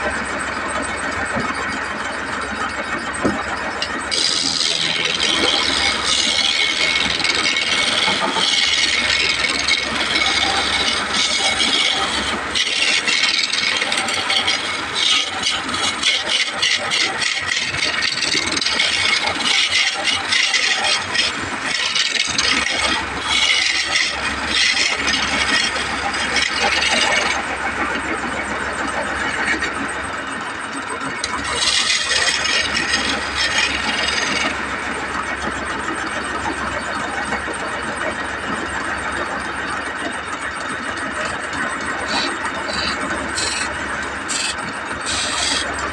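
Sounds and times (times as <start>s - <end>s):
chisel scraping wood on lathe: 3.3s - 29.8s, 31.2s - 38.2s, 41.1s - 45.9s.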